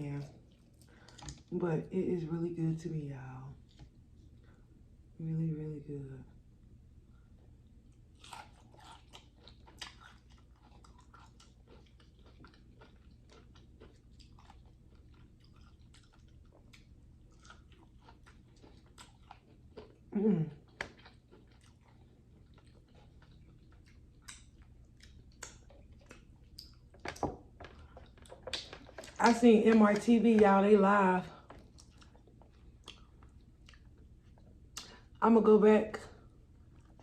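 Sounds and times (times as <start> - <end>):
chewing and crunching: 0.0 - 1.6, 3.5 - 4.6, 7.2 - 35.2, 36.2 - 37.0.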